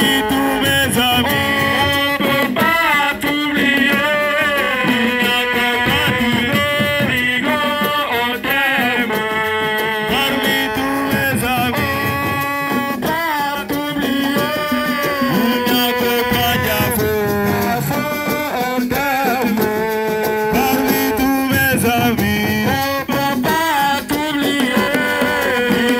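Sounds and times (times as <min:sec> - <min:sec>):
drums: 0:00.0 - 0:25.9
person singing: 0:00.0 - 0:25.9.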